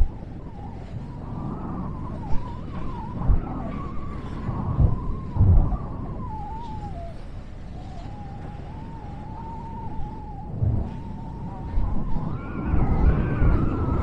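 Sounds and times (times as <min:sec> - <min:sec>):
low rumble of train: 0:00.0 - 0:14.0.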